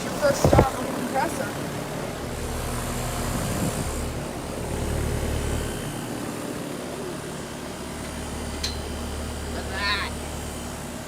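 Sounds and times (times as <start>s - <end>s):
compressor low hum: 0.0s - 11.0s
condenser fan rushing: 0.0s - 11.0s.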